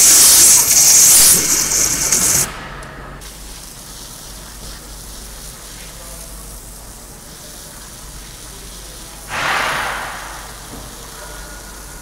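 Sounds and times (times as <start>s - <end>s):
waterjet cutter hissing: 0.0s - 2.7s, 4.4s - 12.0s.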